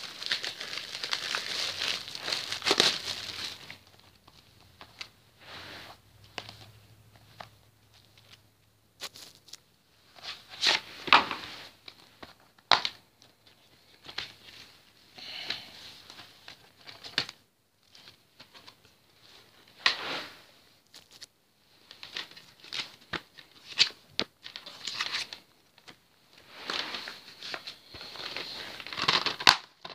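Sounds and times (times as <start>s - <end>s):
plastic rustling and crinkling: 0.0s - 8.4s, 9.0s - 14.9s, 15.5s - 29.9s.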